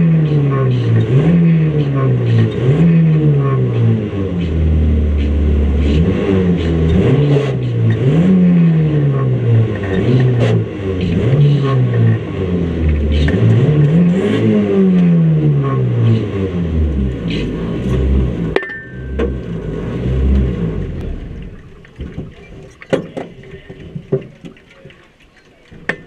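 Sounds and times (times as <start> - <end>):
car engine revving: 0.0 - 22.3.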